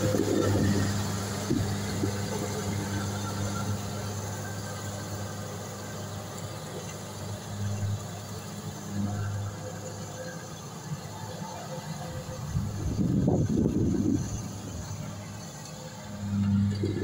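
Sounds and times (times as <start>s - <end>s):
combine harvester diesel engine: 0.0s - 17.0s.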